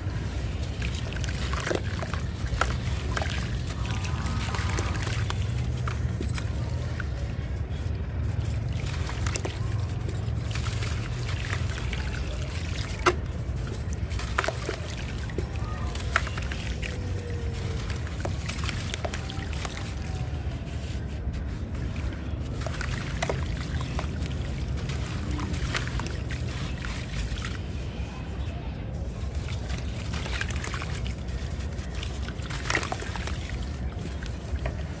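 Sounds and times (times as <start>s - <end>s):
dry clay crunching and crumbling: 0.0s - 35.0s.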